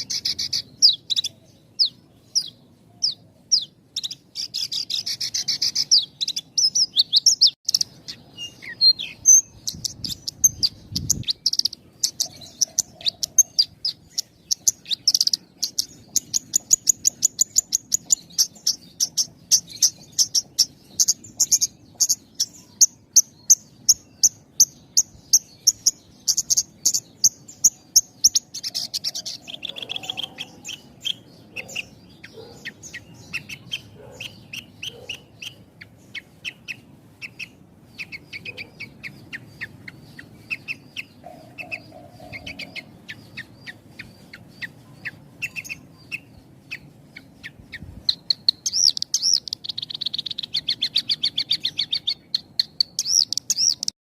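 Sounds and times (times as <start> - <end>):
lark singing chirps and trills: 0.0 - 54.0.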